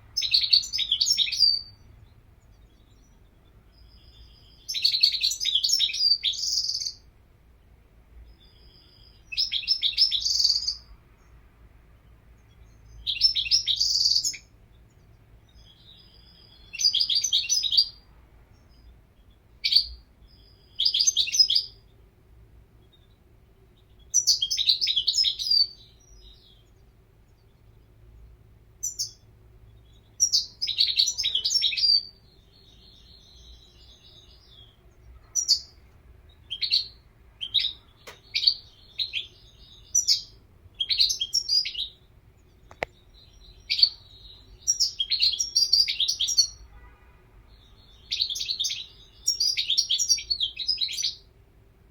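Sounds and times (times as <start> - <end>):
goldfinch singing: 0.1 - 7.1, 8.2 - 10.9, 12.4 - 18.0, 18.6 - 21.9, 23.8 - 27.8, 28.8 - 35.8, 36.4 - 46.6, 47.6 - 51.3.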